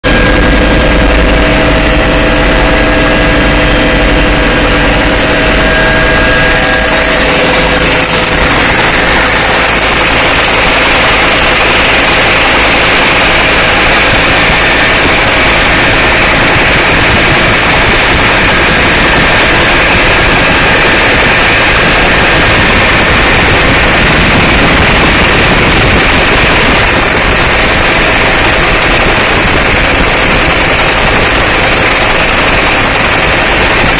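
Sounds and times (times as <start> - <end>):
helicopter engine and rotor: 0.0 - 33.9
high turbine whine: 0.0 - 33.9.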